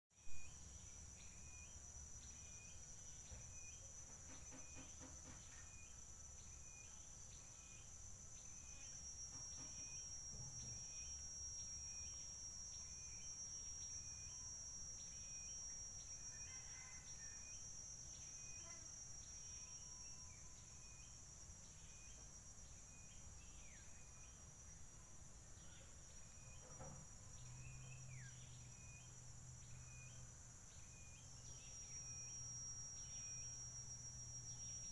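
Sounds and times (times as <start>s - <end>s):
high-pitched insect drone: 0.2s - 34.9s
short insect chirp: 0.2s - 34.9s.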